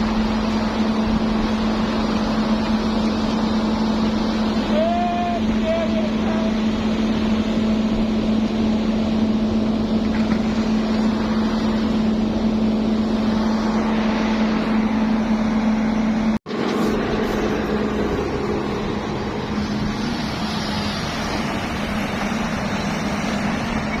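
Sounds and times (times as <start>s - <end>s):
heavy diesel engines working: 0.0s - 24.0s.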